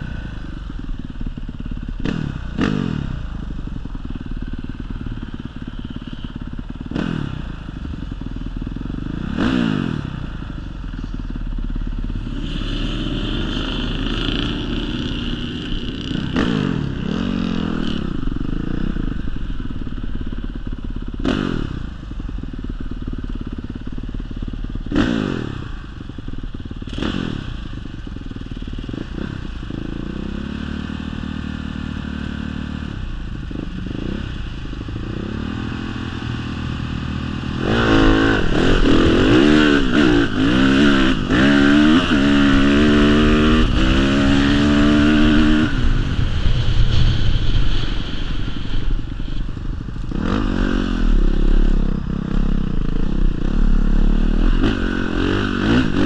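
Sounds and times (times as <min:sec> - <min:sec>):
dirt bike engine revving: 0:00.9 - 0:08.0, 0:08.8 - 0:10.4, 0:11.4 - 0:23.6, 0:24.8 - 0:26.1, 0:26.8 - 0:27.9, 0:33.6 - 0:56.0.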